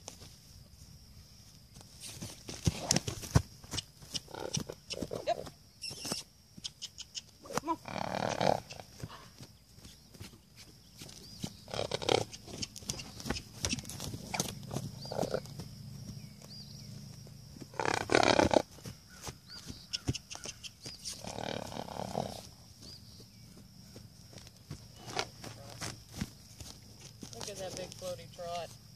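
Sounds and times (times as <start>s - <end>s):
hoofbeats on dry ground: 1.8s - 6.9s, 8.3s - 28.9s.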